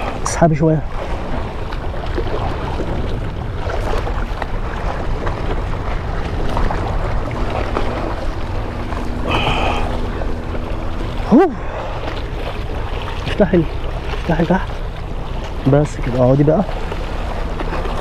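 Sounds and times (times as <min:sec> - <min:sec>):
low steady hum: 0:00.0 - 0:18.0
sea waves against rocks: 0:00.0 - 0:18.0
wind buffeting microphone: 0:00.0 - 0:18.0.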